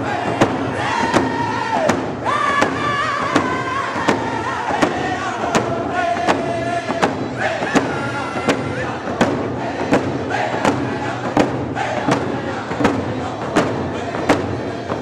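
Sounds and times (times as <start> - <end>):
group singing in unison: 0.0 - 15.0
hand drums beating: 0.0 - 15.0.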